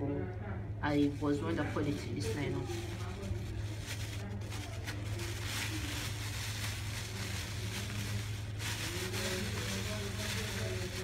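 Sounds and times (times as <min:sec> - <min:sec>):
plastic bag rustling: 0:01.0 - 0:11.0.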